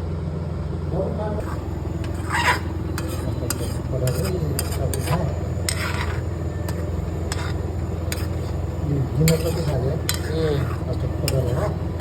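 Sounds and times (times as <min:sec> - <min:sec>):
steady low hum: 0:00.0 - 0:12.0
utensils scraping a pan: 0:01.4 - 0:12.0.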